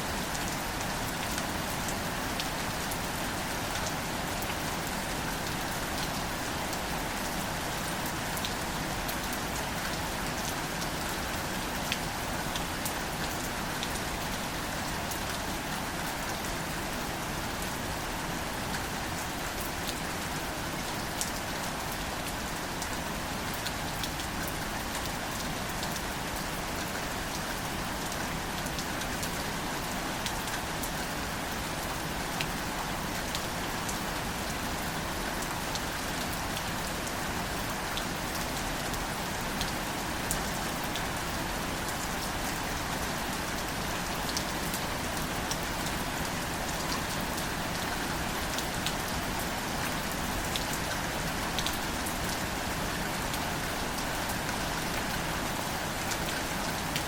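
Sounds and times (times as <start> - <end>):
gentle rain on leaves: 0.0 - 57.0.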